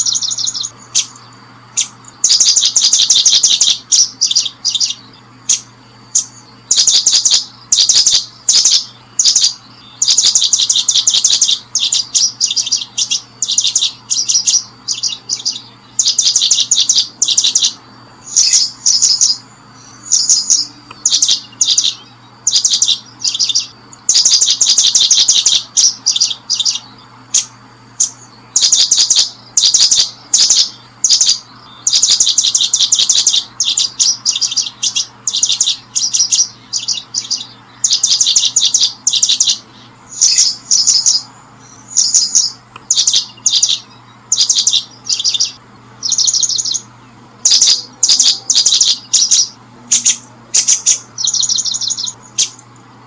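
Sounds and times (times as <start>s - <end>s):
small bird chirping: 0.0s - 53.0s.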